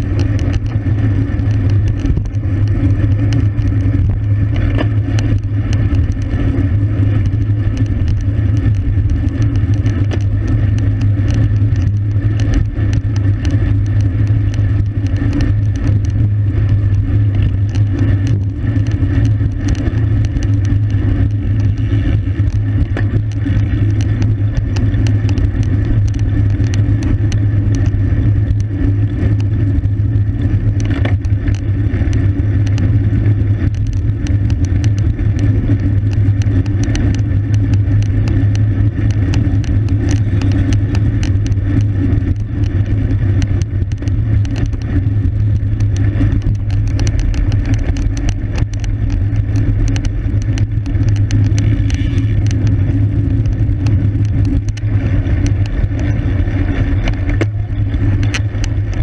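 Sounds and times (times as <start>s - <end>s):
road rumble: 0.0s - 59.0s
small ticks and rattles: 0.0s - 59.0s.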